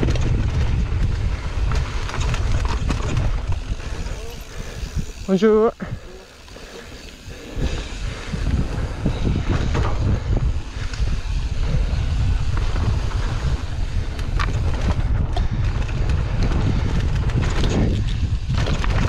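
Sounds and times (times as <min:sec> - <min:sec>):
bike knocking and rattling: 0:00.0 - 0:19.0
bike tyres rumbling on dirt: 0:00.0 - 0:19.0
wind buffeting microphone: 0:00.0 - 0:19.0.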